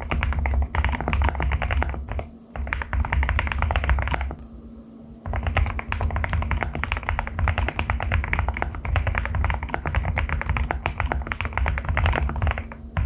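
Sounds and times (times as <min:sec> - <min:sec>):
fast mechanical keyboard typing: 0:00.0 - 0:04.4, 0:05.3 - 0:13.0.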